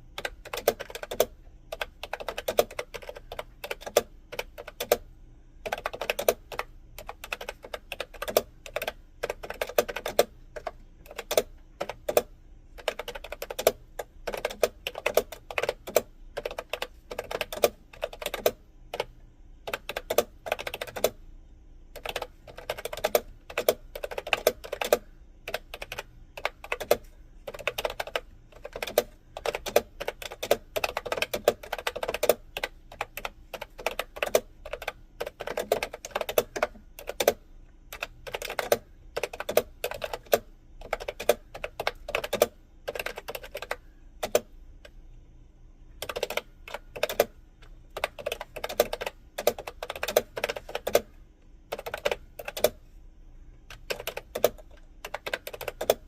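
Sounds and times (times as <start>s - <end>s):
typing on computer keyboard: 0.0s - 21.2s, 21.9s - 45.0s, 45.9s - 52.8s, 53.6s - 56.0s.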